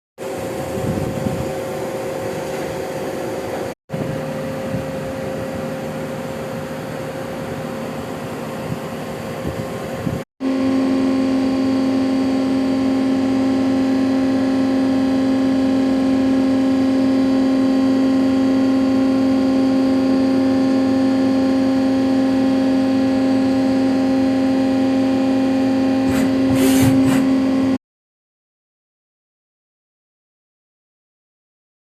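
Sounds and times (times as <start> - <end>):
lathe machine hum and whine: 0.2 - 27.8.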